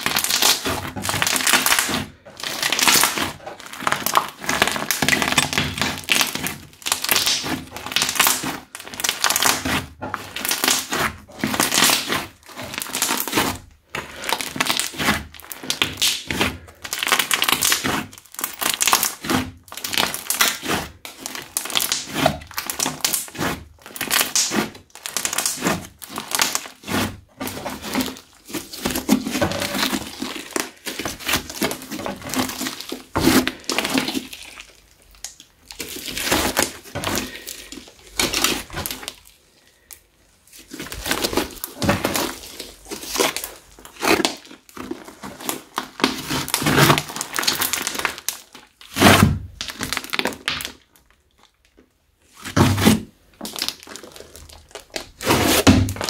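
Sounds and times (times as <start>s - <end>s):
crunchy slime crackling: 0.0s - 56.0s.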